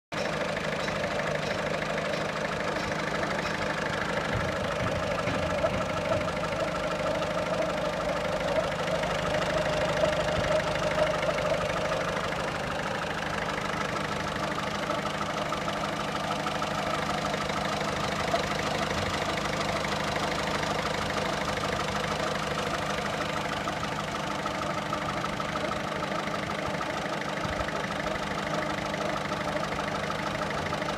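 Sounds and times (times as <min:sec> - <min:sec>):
diesel engine idling: 0:00.1 - 0:30.9.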